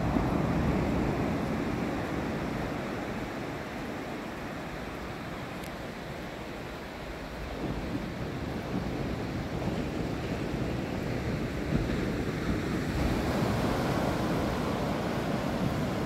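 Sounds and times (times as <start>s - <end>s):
surf breaking on a beach: 0.0s - 16.0s
wind on microphone: 0.0s - 16.0s.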